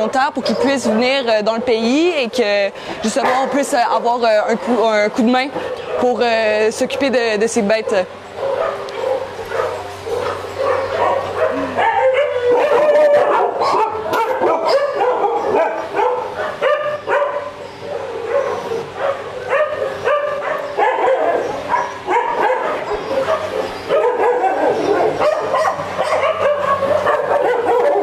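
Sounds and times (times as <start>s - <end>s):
many dogs barking and yelping: 0.0s - 28.0s.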